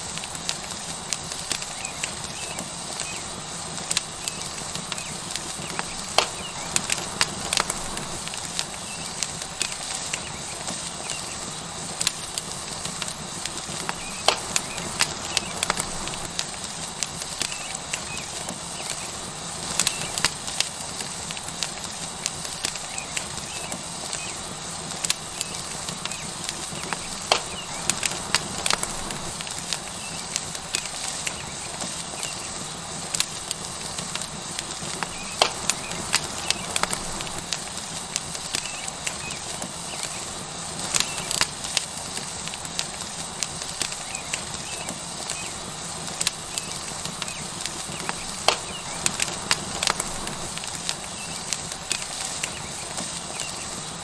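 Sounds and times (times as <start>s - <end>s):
steak sizzling on hot rock: 0.0s - 54.0s
wood fire crackles and pops: 0.0s - 54.0s.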